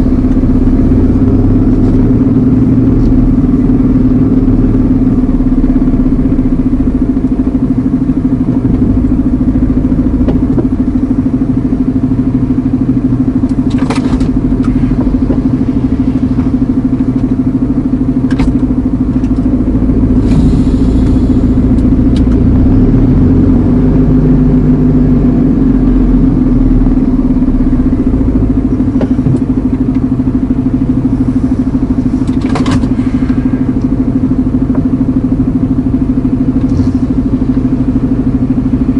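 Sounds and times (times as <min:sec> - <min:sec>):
lorry diesel engine drone: 0:00.0 - 0:38.9.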